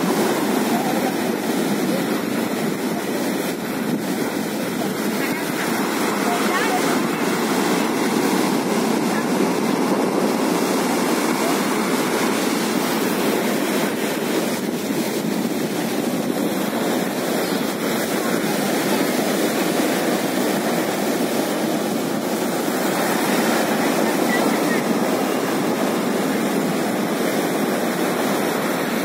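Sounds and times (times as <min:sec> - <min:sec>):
sea surf breaking on rocks: 0:00.0 - 0:29.0.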